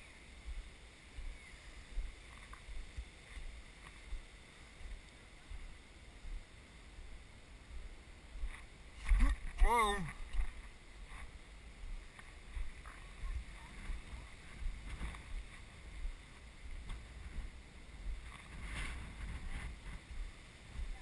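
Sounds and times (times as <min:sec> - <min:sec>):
low microphone rumble: 0:00.0 - 0:21.0.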